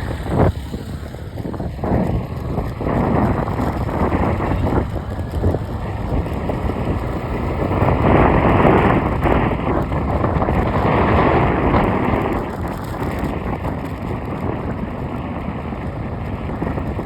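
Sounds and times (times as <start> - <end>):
road vehicle rumble: 0.0 - 17.0
wind rushing over microphone: 0.0 - 17.0.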